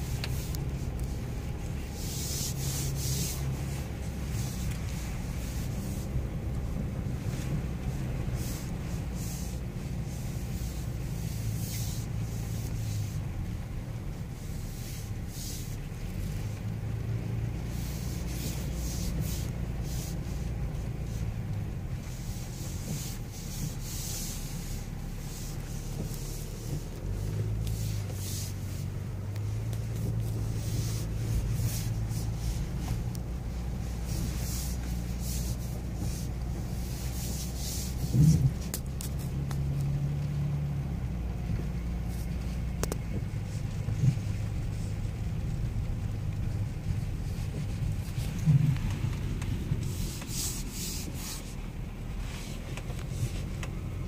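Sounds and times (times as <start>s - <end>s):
hissy swishes: 0.0s - 13.4s, 17.1s - 40.6s, 41.8s - 54.0s
engine and tyre rumble: 0.0s - 54.0s.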